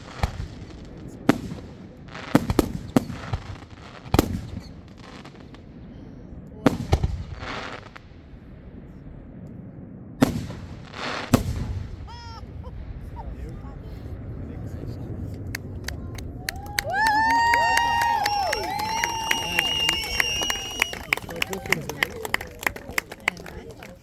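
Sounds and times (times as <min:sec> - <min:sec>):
fireworks bangs: 0:00.0 - 0:24.0
fireworks crackling and hissing: 0:00.0 - 0:24.0.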